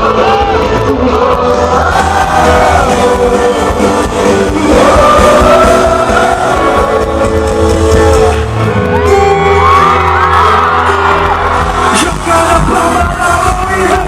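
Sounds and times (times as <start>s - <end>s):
crowd whooping and shouting: 0.0s - 14.0s
live band music through a pa: 0.0s - 14.0s.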